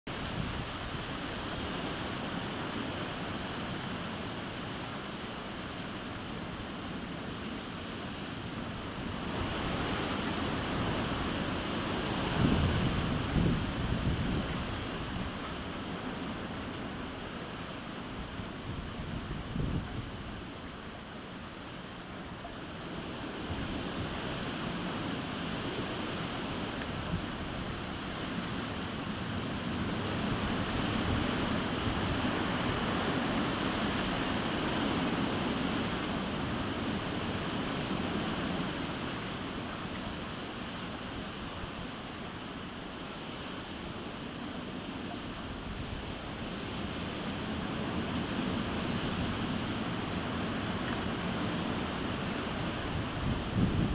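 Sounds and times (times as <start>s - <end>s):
wind blowing in gusts: 0.1s - 53.9s.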